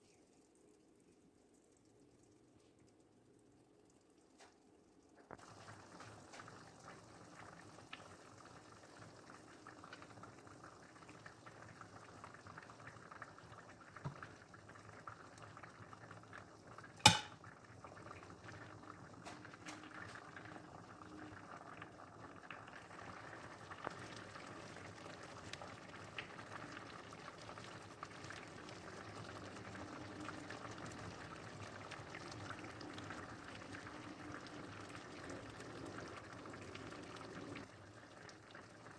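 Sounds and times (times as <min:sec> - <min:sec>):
liquid bubbling in a pot: 0:00.0 - 0:38.9.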